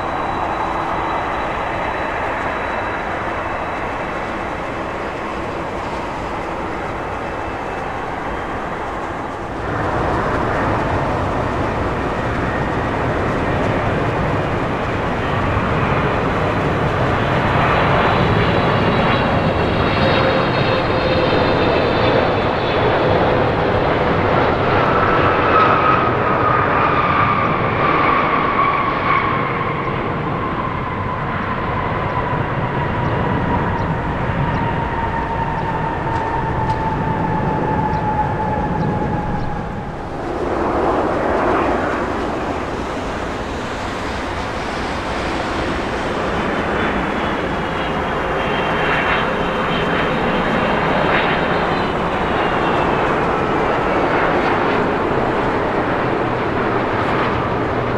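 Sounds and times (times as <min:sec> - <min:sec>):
high engine whine falling in pitch: 0:00.0 - 0:57.9
jet airliner roar: 0:00.0 - 0:57.9.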